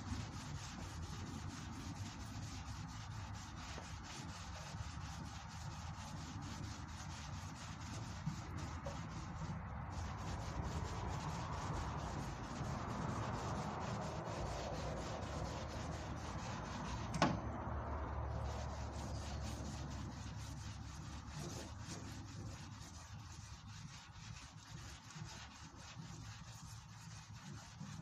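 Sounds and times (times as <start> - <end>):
sandpaper rubbing on metal panel: 0.0 - 17.2, 18.3 - 28.0.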